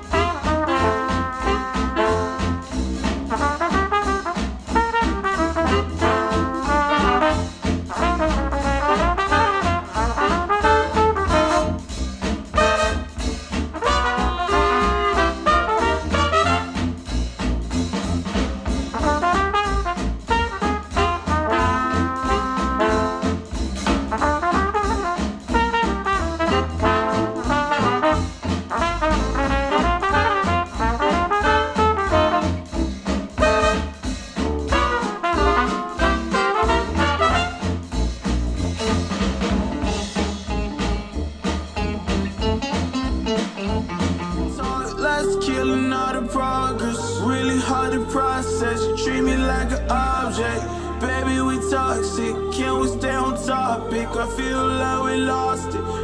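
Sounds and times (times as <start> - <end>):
instrumental music with heavy bass beat: 0.0 - 54.6.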